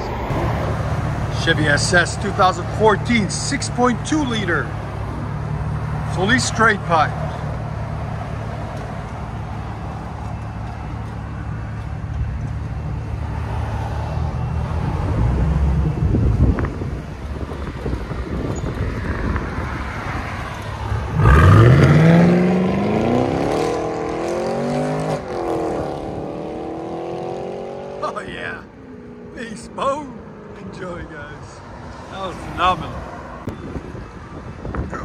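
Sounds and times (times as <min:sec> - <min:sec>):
car engine rumbling and accelerating: 0:00.0 - 0:35.0.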